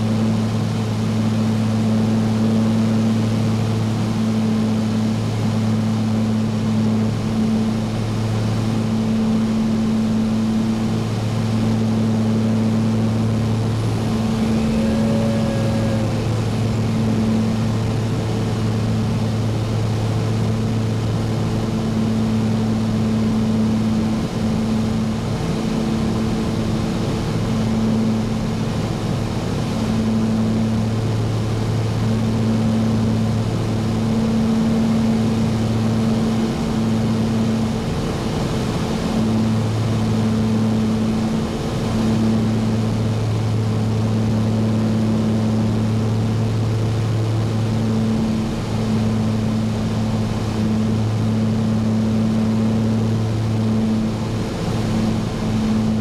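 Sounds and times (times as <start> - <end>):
aircraft engines droning in cabin: 0.0 - 56.0.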